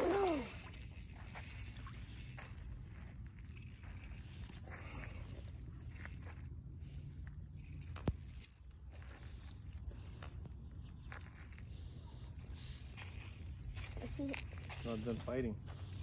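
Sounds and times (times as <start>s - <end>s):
fishing reel clicking: 0.0s - 16.0s.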